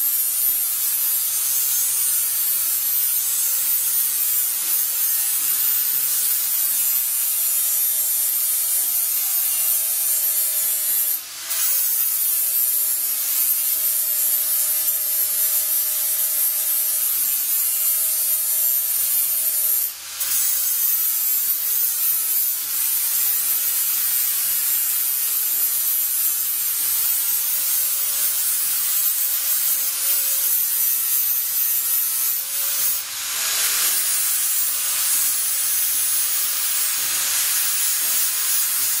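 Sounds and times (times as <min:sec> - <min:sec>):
angle grinder cutting steel: 0:00.0 - 0:39.0.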